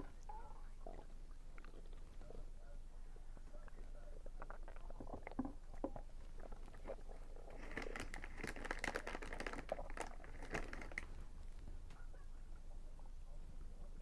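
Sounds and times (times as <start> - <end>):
crackling and crunching while eating: 0.0 - 12.3.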